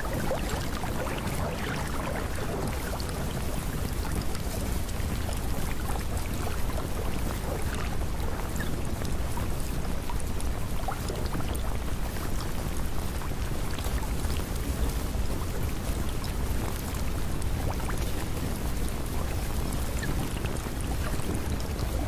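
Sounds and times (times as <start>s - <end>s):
rain-like water noise: 0.0s - 22.0s.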